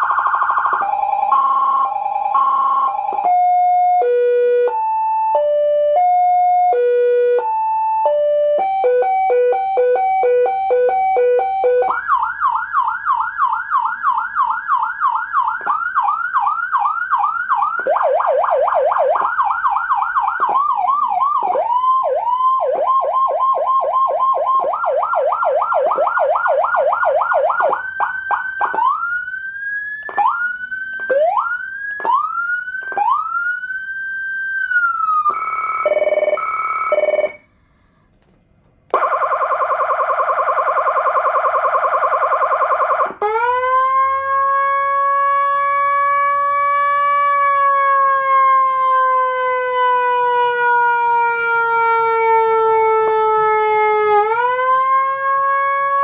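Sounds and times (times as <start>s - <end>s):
electronic siren sweeping tones: 0.0s - 37.4s, 38.9s - 56.0s.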